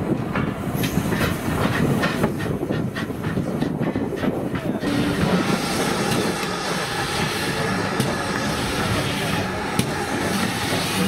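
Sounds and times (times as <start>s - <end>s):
steam train passing: 0.0s - 11.0s.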